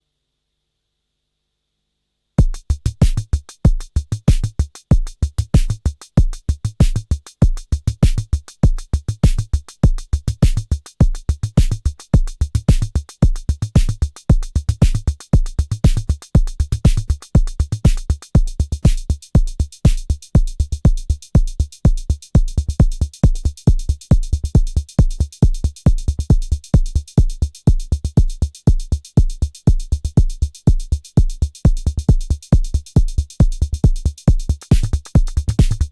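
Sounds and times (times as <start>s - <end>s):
drum machine beat: 2.4s - 35.9s
kick drum thumps: 2.4s - 35.9s
short sharp hi-hat ticks: 2.4s - 35.9s.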